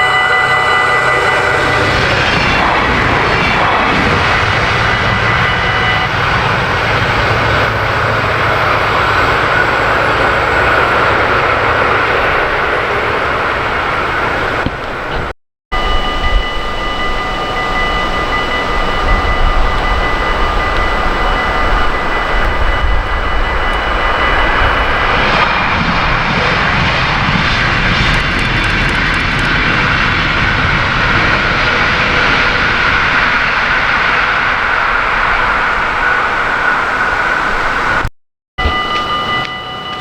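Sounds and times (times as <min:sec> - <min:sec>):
train rumbling by: 0:00.0 - 0:40.0
wind noise on microphone: 0:01.3 - 0:40.0.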